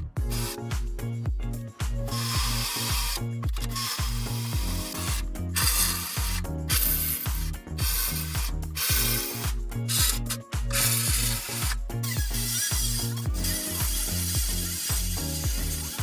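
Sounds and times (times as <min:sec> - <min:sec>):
electronic music with pulsing bass: 0:00.0 - 0:16.0.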